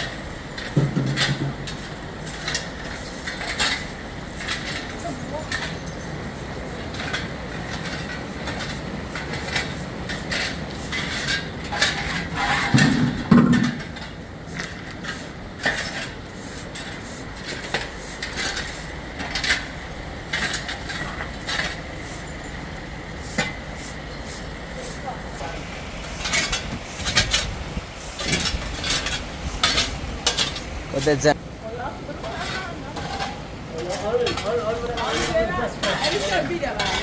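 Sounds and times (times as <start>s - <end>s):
hard objects clattering: 0.0s - 31.4s.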